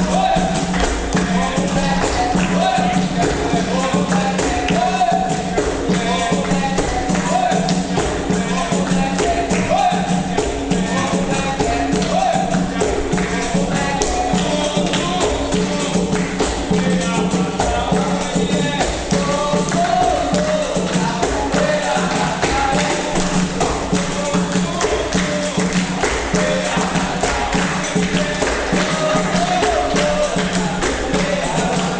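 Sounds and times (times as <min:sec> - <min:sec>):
voices singing: 0:00.0 - 0:31.9.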